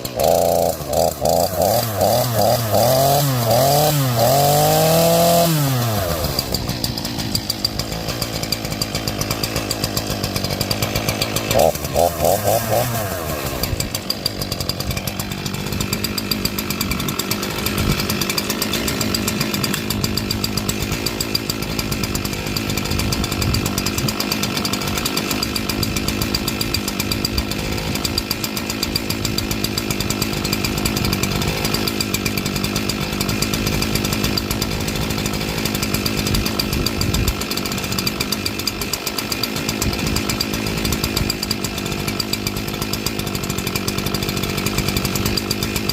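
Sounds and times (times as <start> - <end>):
chainsaw engine running: 0.0 - 45.9.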